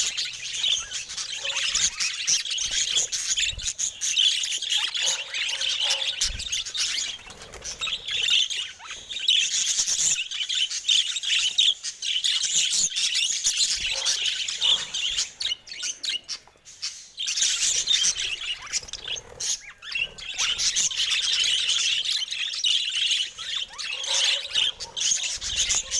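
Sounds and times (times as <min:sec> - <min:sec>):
budgerigars chattering and warbling: 0:00.0 - 0:25.9.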